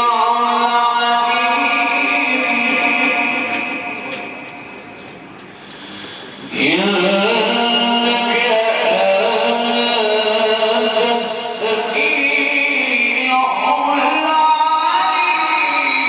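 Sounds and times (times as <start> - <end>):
man chanting recitation: 0.0 - 4.4, 6.4 - 16.0.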